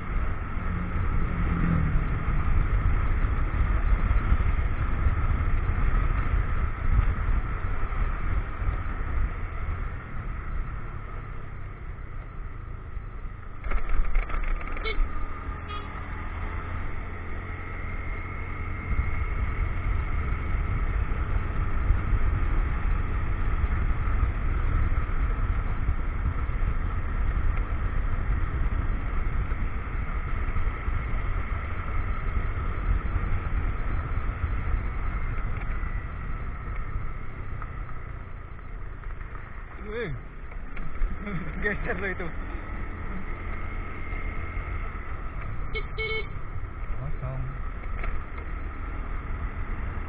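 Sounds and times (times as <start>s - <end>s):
motorcycle engine rumbling: 0.0s - 50.0s.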